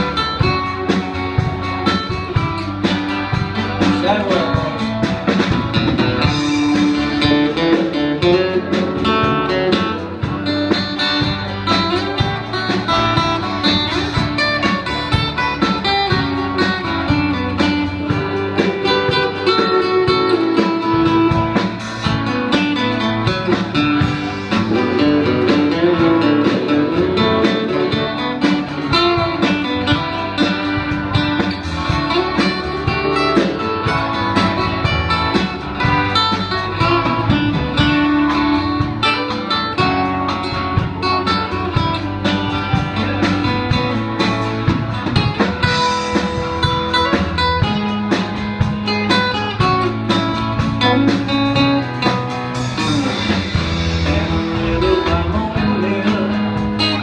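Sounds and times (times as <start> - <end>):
drum kit: 0.0 - 57.0
electric bass: 0.0 - 57.0
guitars strummed and picked: 0.0 - 57.0.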